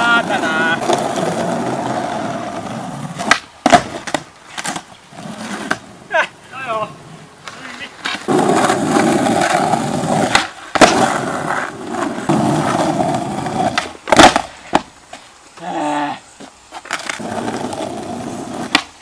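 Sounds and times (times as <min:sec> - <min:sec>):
skateboard clacking on ground: 0:00.0 - 0:05.9, 0:07.4 - 0:14.9, 0:16.4 - 0:19.0
skateboard wheels rolling on asphalt: 0:00.0 - 0:19.0.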